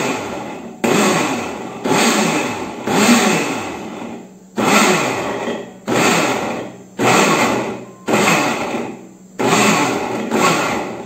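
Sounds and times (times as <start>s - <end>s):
blender pulsing: 0.0s - 11.0s.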